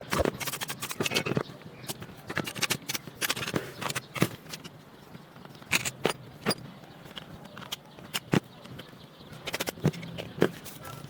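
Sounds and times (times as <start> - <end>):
rifle parts clicking and scraping: 0.0 - 11.0.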